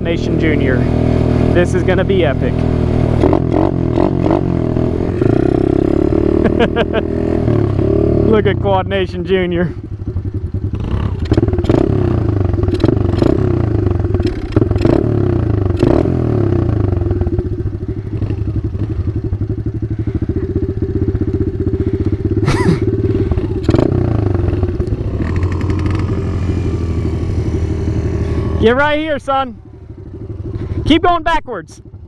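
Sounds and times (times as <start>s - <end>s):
engine idling: 0.0s - 6.9s, 7.7s - 32.0s.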